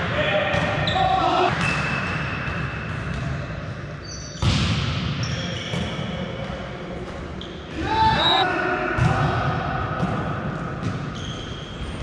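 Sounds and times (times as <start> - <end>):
volleyball hits echoing in a hall: 0.0 - 12.0.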